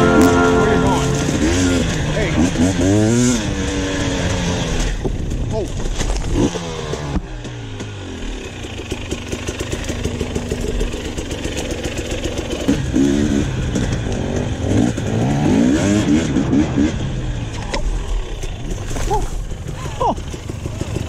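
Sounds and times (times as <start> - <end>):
dirt bike engine revving: 0.0 - 5.0, 6.2 - 21.0.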